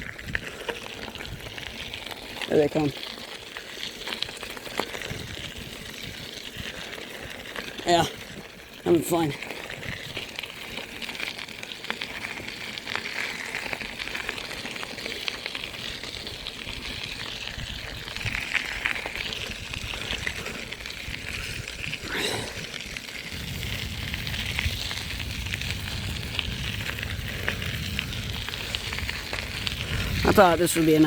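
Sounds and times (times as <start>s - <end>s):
bicycle clicking and rattling: 0.0s - 31.0s
bicycle tyres on road: 0.0s - 31.0s.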